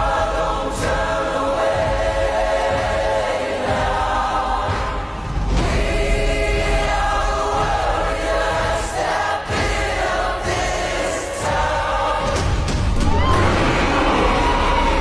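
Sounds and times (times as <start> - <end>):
choir singing sustained notes: 0.0 - 15.0.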